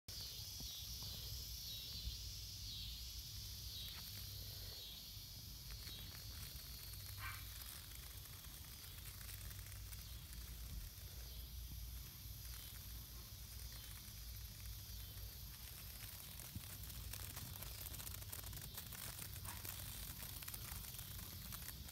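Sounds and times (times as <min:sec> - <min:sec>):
high-pitched hiss: 0:00.1 - 0:21.9.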